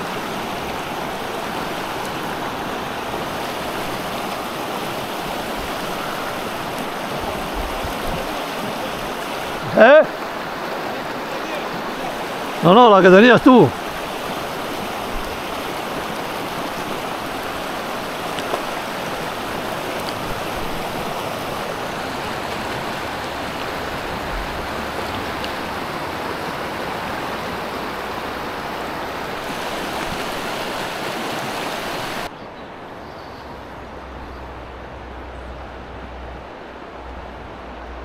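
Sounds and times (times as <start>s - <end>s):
river flowing over stones: 0.0s - 38.0s.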